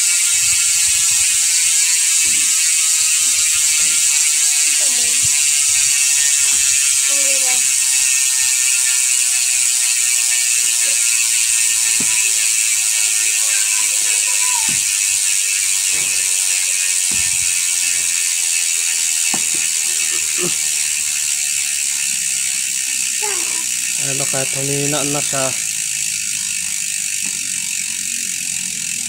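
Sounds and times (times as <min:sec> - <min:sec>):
bicycle freehub ratchet clicking: 0:00.0 - 0:29.0.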